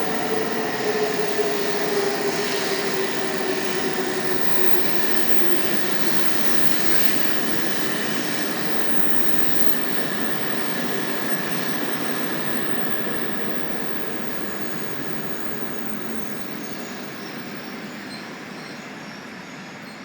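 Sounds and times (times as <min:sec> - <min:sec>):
train rumbling with motor whine: 0:00.0 - 0:20.0.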